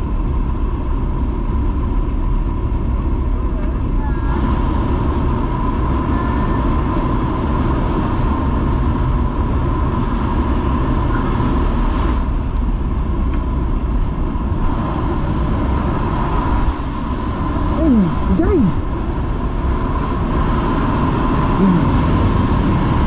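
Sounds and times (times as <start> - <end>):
plane engine drone: 0.0 - 23.0.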